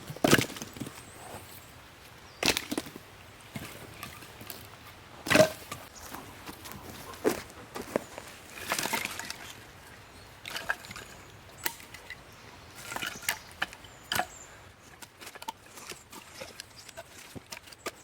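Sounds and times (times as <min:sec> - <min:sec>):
dry wood cracking and rustling: 0:00.0 - 0:18.0.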